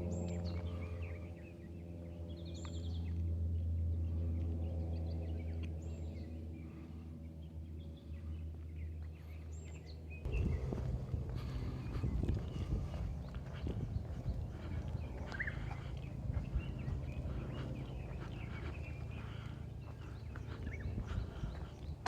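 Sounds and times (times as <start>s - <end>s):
birds chirping: 0.0s - 22.0s
low droning hum: 0.0s - 22.0s.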